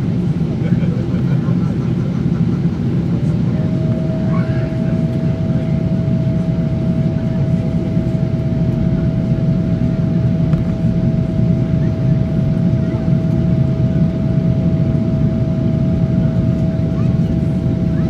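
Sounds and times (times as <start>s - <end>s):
airflow and engine rumble: 0.0s - 18.0s
mid-pitched hum: 0.0s - 18.0s.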